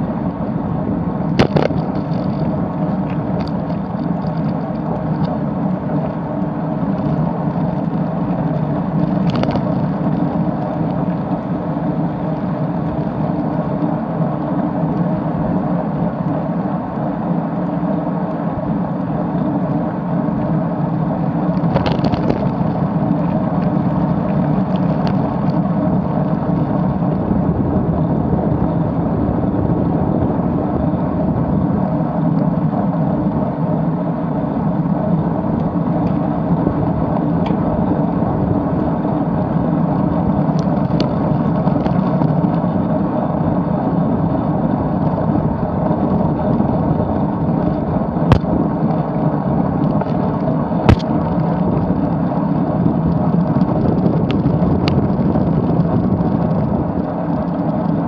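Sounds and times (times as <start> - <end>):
tyre and road rumble: 0.0 - 58.0
wind on microphone: 0.0 - 58.0.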